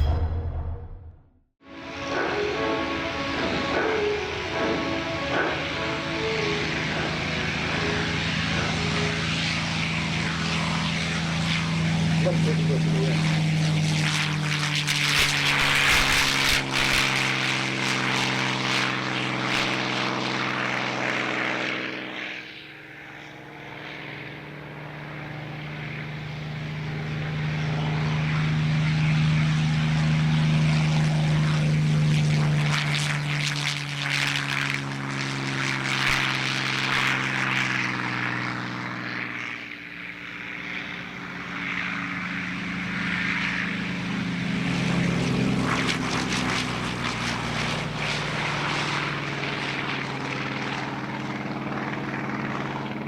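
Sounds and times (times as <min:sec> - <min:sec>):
propeller plane engines droning: 0:01.6 - 0:53.0.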